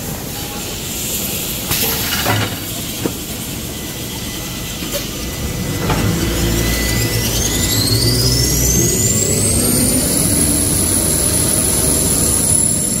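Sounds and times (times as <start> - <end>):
machine humming: 2.5 - 13.0.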